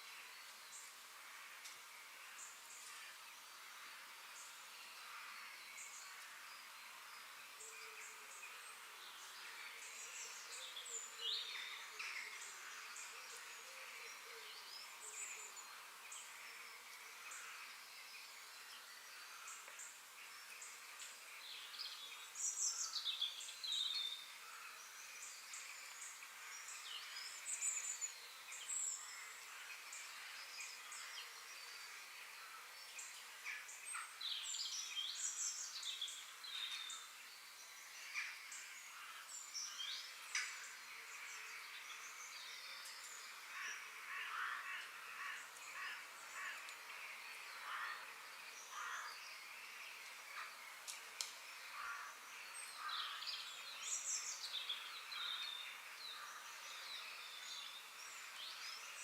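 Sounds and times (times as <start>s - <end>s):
steady background hiss: 0.0s - 59.0s
birds chirping and singing: 4.3s - 59.0s.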